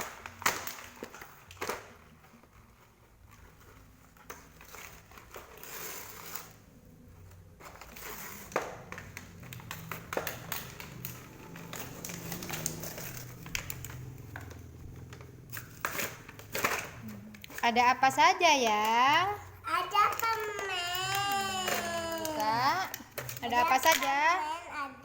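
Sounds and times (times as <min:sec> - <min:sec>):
plastic packaging crinkling: 0:00.0 - 0:24.3.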